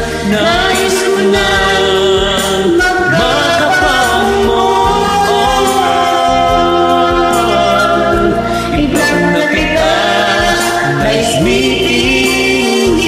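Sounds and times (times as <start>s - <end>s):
man singing: 0.0s - 13.0s
pop backing track: 0.0s - 13.0s.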